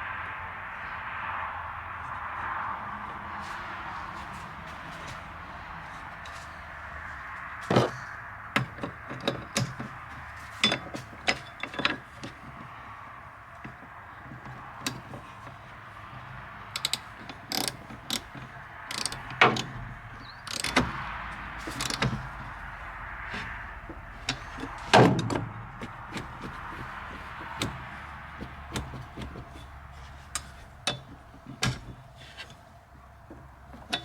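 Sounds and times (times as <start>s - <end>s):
hand tools clicking and knocking: 4.2s - 12.9s, 13.5s - 34.0s.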